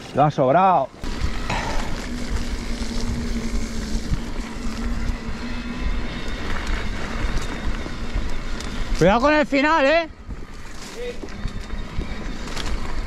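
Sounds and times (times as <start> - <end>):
bike rumble and rattle: 0.9 - 13.0
steady low hum: 0.9 - 13.0.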